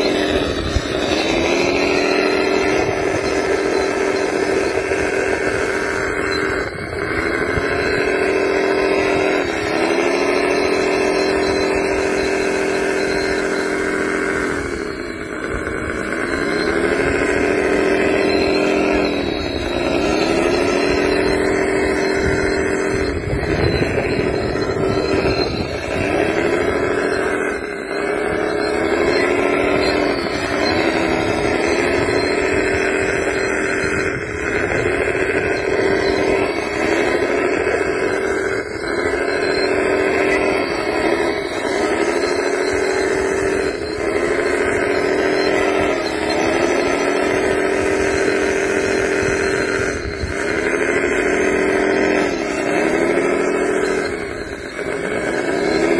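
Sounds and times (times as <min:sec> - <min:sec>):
machine running with wavering pitch: 0:00.0 - 0:55.9.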